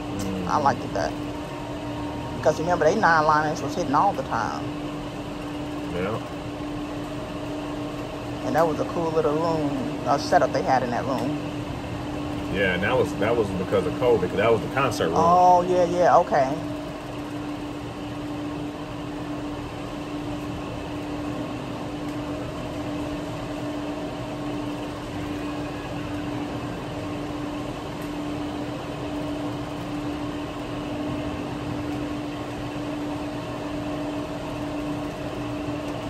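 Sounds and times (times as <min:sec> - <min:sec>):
casino floor hum: 0:00.0 - 0:36.0.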